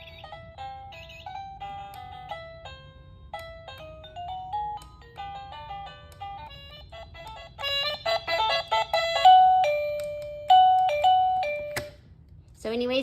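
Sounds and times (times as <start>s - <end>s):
electronic doorbell chime tunes: 0.0s - 11.8s.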